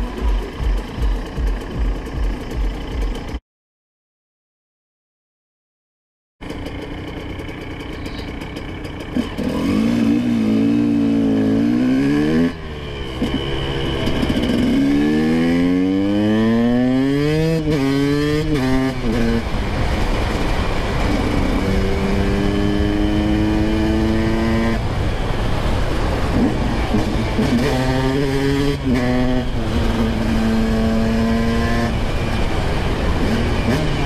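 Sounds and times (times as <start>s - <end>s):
dirt bike engine accelerating: 6.4s - 34.0s.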